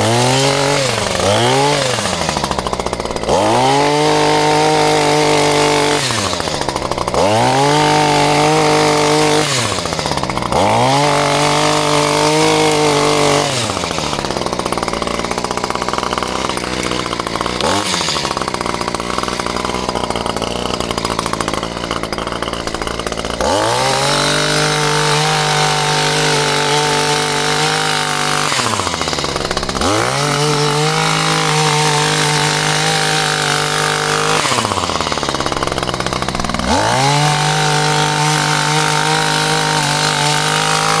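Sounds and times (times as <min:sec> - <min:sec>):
chainsaw revving and idling: 0:00.0 - 0:41.0.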